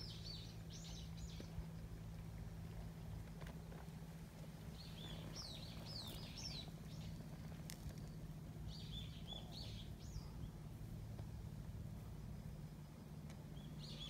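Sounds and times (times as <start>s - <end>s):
songbird chirping: 0.0s - 14.0s
steady low hum: 0.0s - 14.0s.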